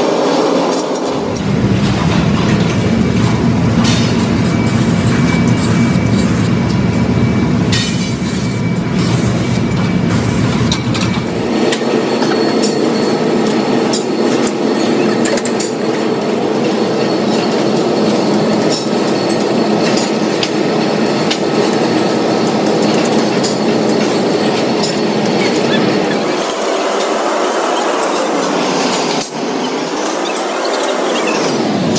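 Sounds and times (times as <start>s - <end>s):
machinery rumbling: 0.0s - 31.9s.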